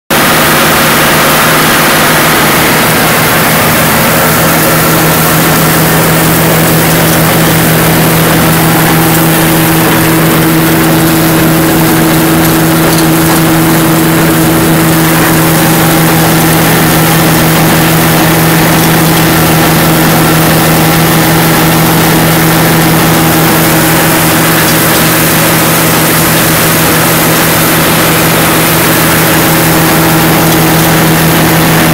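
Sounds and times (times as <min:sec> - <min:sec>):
forage blower mechanical hum: 0:00.1 - 0:31.9.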